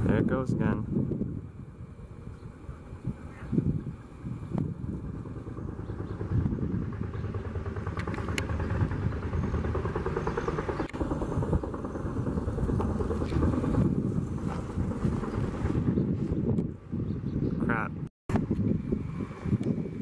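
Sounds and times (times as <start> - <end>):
helicopter rotor chop: 0.0 - 17.0, 18.3 - 20.0.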